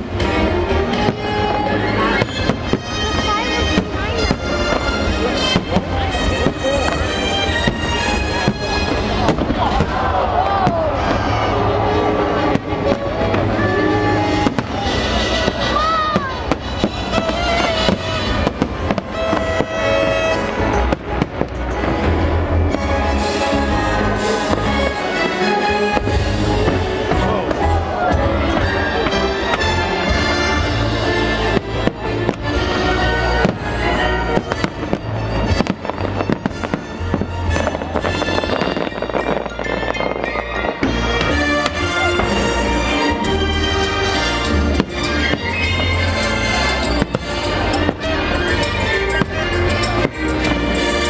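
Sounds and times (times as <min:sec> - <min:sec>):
fireworks bangs: 0:00.0 - 0:51.0
music soundtrack: 0:00.0 - 0:51.0.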